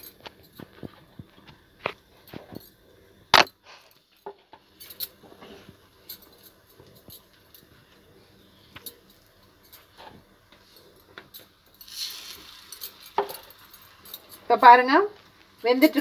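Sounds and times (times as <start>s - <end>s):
bread frying and crackling: 0.0s - 16.0s.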